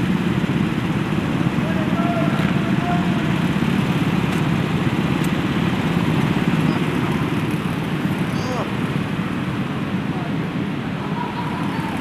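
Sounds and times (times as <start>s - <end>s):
go-kart engines idling: 0.0s - 12.0s.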